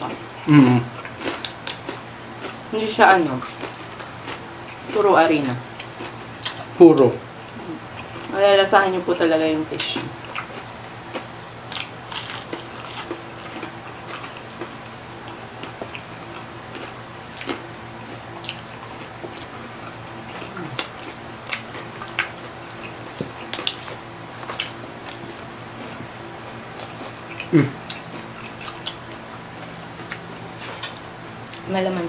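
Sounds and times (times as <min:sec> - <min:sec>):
faint steady hum: 0:00.0 - 0:32.0
crispy food crunching: 0:00.9 - 0:07.1, 0:09.8 - 0:31.7.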